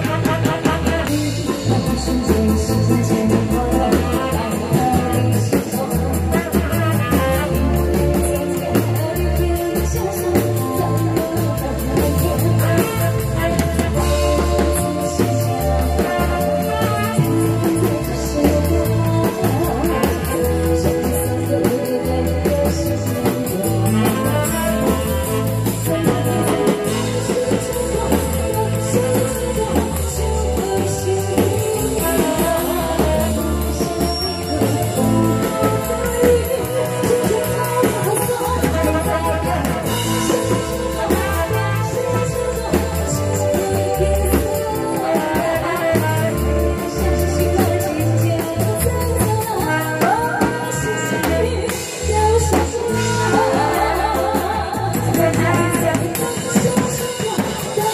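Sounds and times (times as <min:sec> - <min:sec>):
live amplified pop band: 0:00.0 - 0:57.9
woman singing into microphone: 0:00.0 - 0:57.9.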